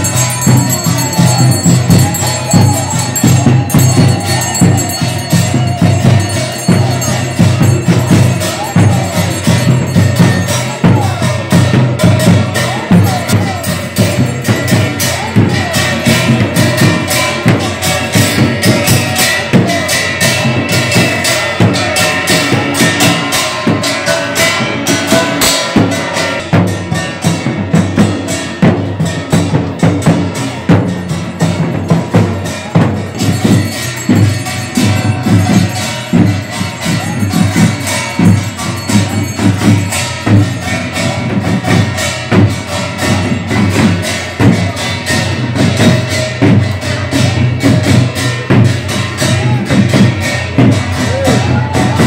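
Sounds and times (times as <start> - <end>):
clashing metal percussion: 0.0 - 52.0
drums beaten fast: 0.0 - 52.0.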